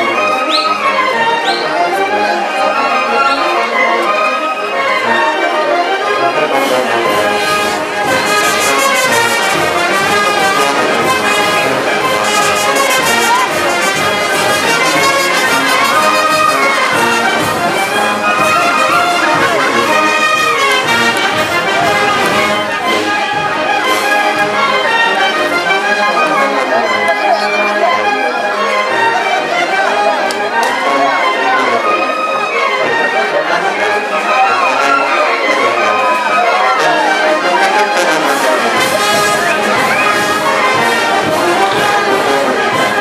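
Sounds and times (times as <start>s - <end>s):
brass band playing dance music: 0.0s - 43.0s.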